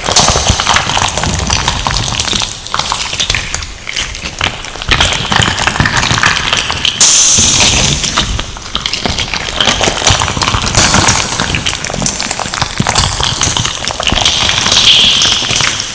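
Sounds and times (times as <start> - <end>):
crunchy slime crackling and popping: 0.0 - 15.9.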